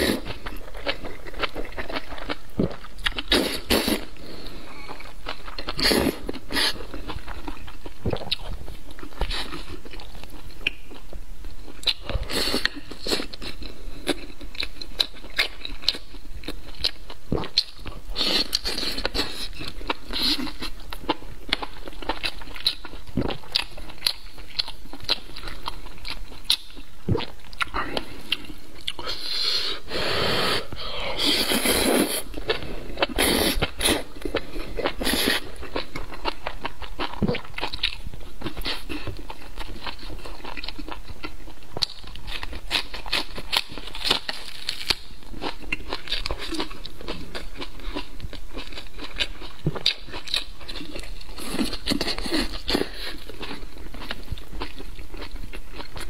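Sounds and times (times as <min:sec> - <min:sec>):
chewing and crunching: 0:00.0 - 0:29.4, 0:31.2 - 0:56.0.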